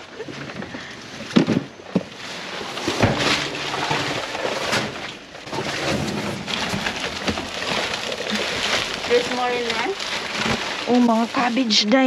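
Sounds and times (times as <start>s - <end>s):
rustling of produce and packaging: 0.0s - 12.0s.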